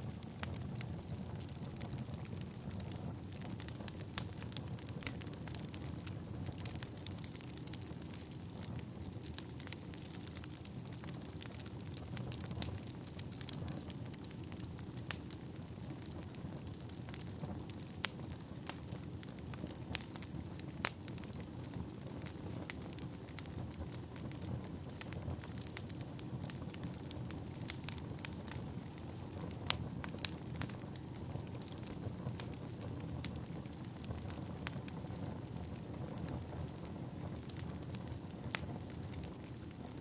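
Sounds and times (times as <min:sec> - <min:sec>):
low rumble of flames: 0:00.0 - 0:40.0.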